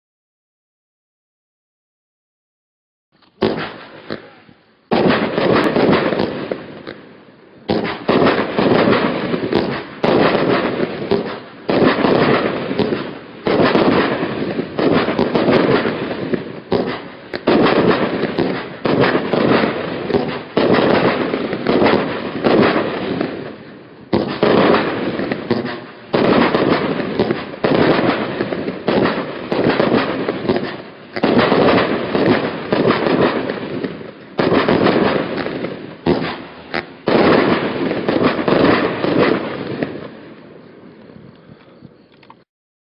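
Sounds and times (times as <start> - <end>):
firework barrage bursts: 3.2 - 41.3.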